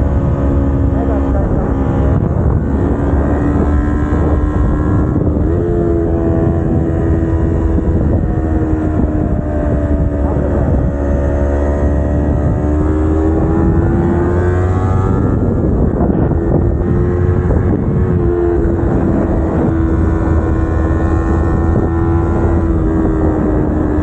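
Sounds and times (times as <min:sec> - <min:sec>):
motorcycle engine: 0:00.0 - 0:24.0
wind rumble on microphone: 0:00.0 - 0:24.0.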